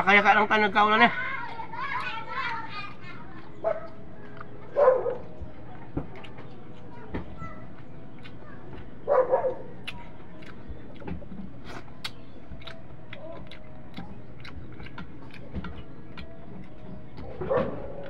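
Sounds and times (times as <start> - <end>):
chewing and handling food: 1.3 - 18.0.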